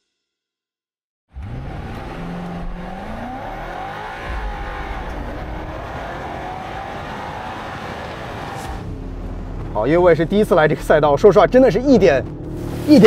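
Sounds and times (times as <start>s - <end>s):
car engine accelerating: 1.3s - 13.0s.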